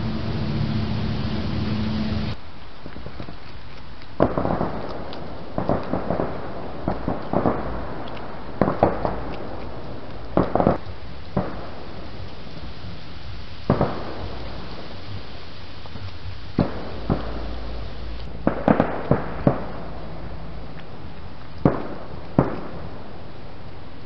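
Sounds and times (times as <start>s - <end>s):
distant fireworks bangs: 4.2s - 23.5s.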